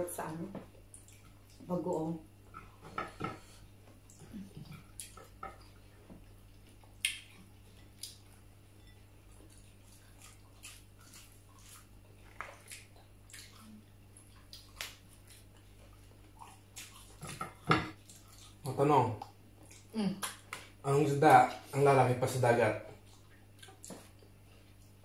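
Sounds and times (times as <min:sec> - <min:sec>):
steady low hum: 0:00.0 - 0:25.0
people chewing vegetables: 0:00.5 - 0:25.0.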